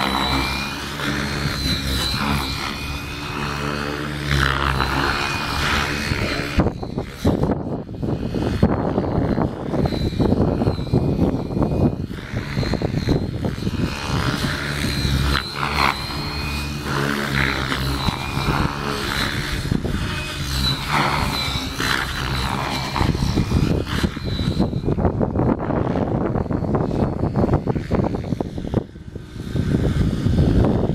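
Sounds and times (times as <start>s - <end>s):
rc helicopter whine: 0.0s - 30.9s
wind rumbling on microphone: 0.0s - 30.9s.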